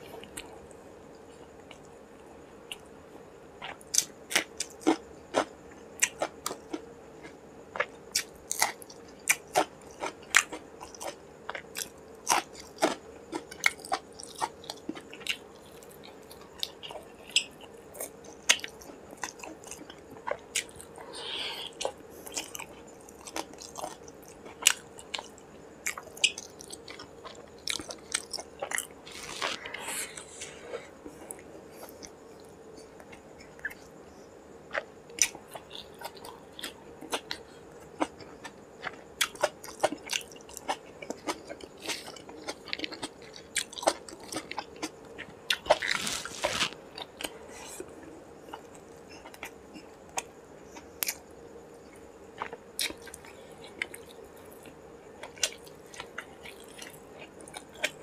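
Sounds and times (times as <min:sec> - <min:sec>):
man chewing food: 0:03.6 - 0:34.0, 0:34.6 - 0:58.0.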